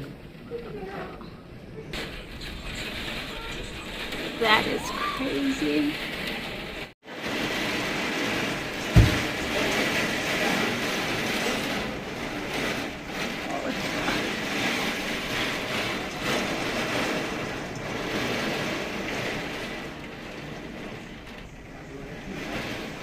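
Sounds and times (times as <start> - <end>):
heavy wind-driven rain: 0.0 - 23.0
gusting wind: 1.3 - 23.0.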